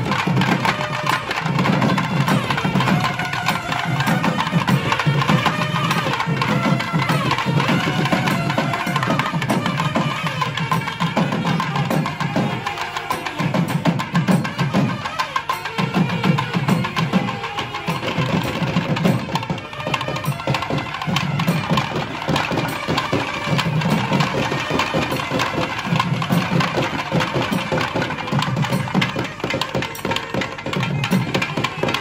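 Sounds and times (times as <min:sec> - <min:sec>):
barrel drums playing fast rhythm: 0:00.0 - 0:32.0.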